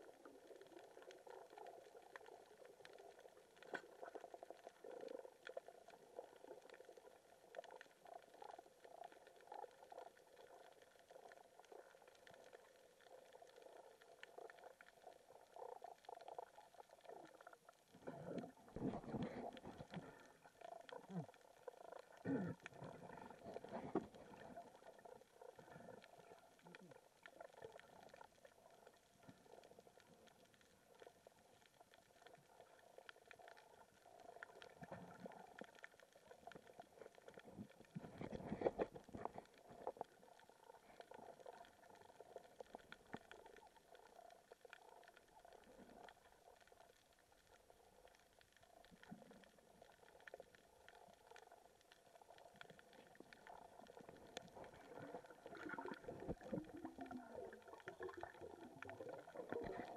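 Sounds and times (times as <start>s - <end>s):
low underwater rumble: 0.0s - 59.9s
small underwater clicks: 0.0s - 59.9s.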